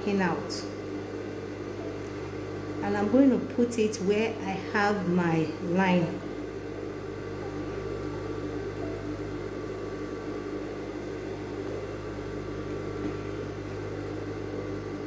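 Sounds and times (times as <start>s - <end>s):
electric motor hum: 0.0s - 15.0s.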